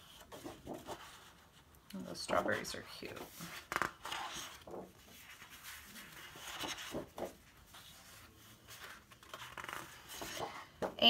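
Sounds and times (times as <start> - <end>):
paper rustling and sliding: 0.0 - 1.6, 2.2 - 10.9
paper handling sounds: 0.0 - 11.0.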